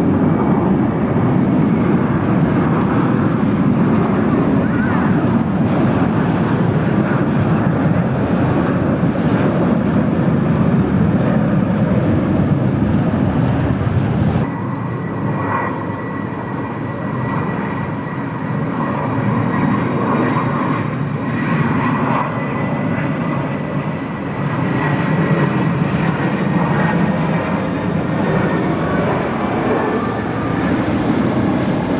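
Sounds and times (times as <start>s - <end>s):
aircraft engines rumbling: 0.0s - 31.9s
steady high whine: 0.0s - 31.9s.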